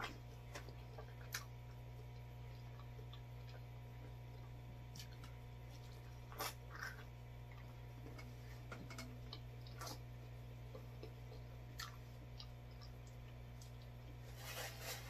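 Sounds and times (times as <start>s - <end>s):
person chewing: 0.0s - 14.2s
steady low hum: 0.0s - 15.0s.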